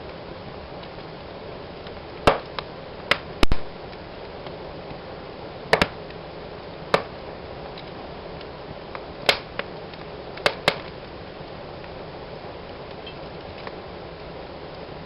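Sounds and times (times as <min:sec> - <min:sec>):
fire flames hissing: 0:00.0 - 0:15.0
wood crackling and popping: 0:00.0 - 0:15.0.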